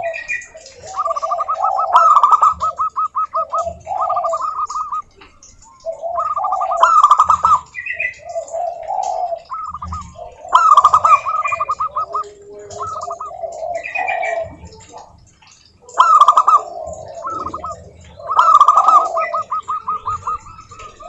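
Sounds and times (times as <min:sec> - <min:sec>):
doves cooing: 0:00.0 - 0:21.0
higher bird chirps: 0:00.0 - 0:21.0.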